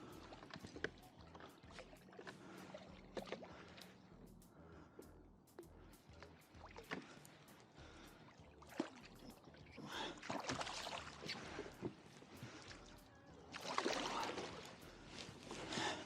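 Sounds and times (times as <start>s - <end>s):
water splashing around kayak: 0.0s - 4.1s, 6.1s - 16.0s.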